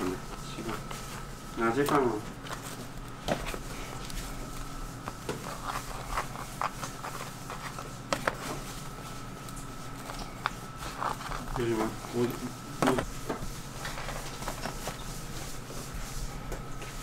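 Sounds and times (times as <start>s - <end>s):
high-pitched electrical hum: 0.0s - 17.0s.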